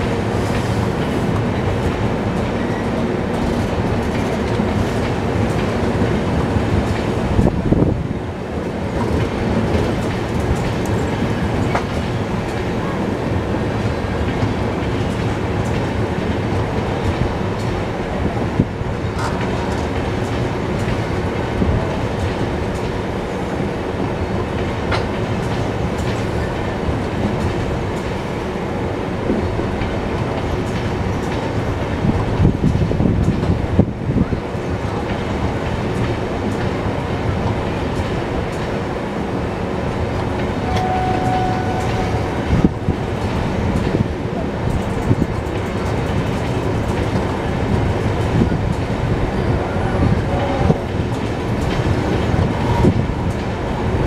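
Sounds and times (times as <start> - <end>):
clickety-clack over rail joints: 0.0 - 54.0
train wheels rumbling on rails: 0.0 - 54.0.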